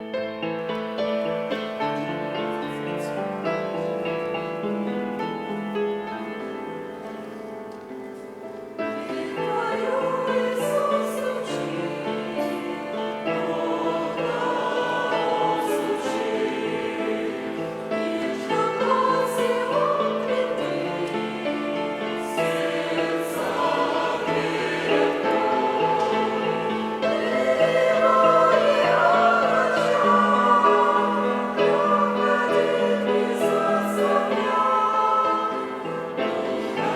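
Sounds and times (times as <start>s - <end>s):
church choir singing a hymn: 1.0s - 7.5s, 8.2s - 36.9s.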